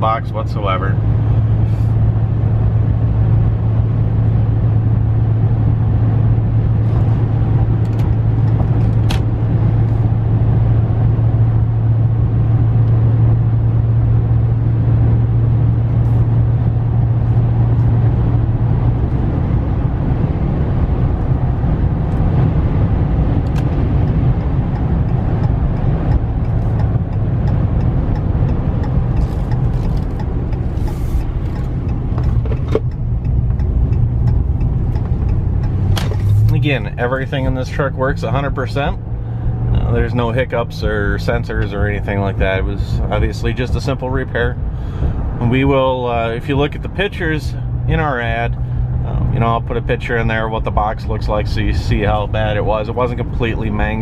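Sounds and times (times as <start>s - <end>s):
engine and road drone: 0.0s - 54.0s.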